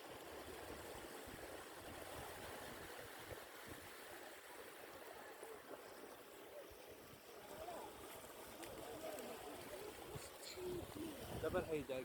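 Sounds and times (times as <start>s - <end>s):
surf washing: 0.0s - 12.0s.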